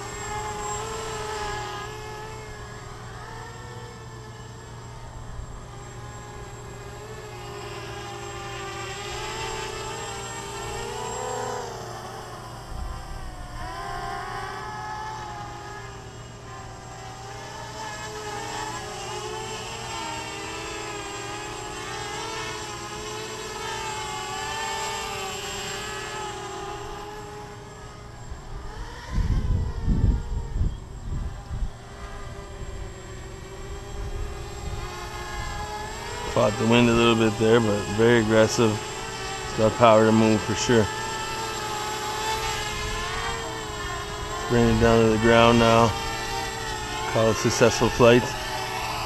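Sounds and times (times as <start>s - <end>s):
drone motors whining: 0.0s - 49.0s.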